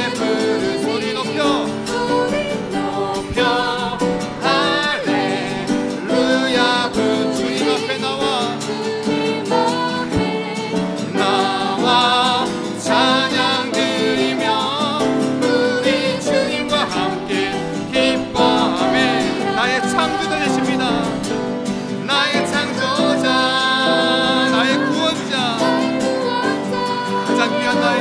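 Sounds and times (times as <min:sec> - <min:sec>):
man singing: 0:00.0 - 0:02.5, 0:03.2 - 0:08.8, 0:11.1 - 0:21.4, 0:22.0 - 0:26.2, 0:26.8 - 0:28.0
acoustic guitar strumming: 0:00.0 - 0:28.0.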